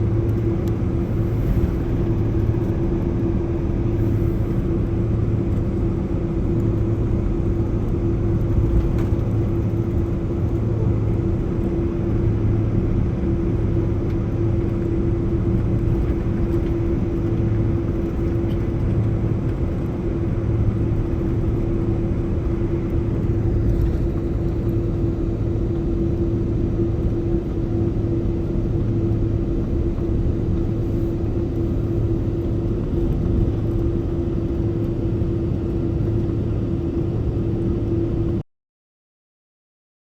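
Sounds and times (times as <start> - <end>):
constant droning hum: 0.0 - 38.4
jet engines rumbling: 0.0 - 38.4.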